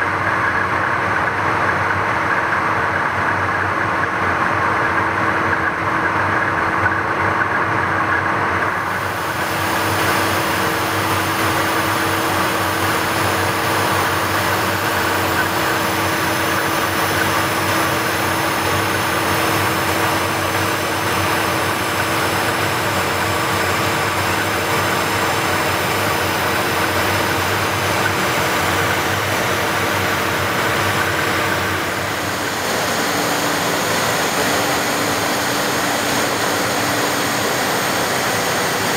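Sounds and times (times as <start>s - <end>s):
jet engines droning: 0.0s - 38.9s
steady hum tones: 0.0s - 38.9s.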